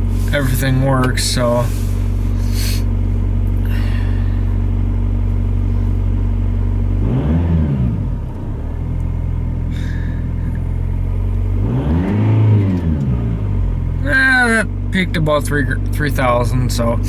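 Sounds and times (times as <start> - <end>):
diesel engine idling: 0.0 - 17.0
engine revving: 0.0 - 17.0.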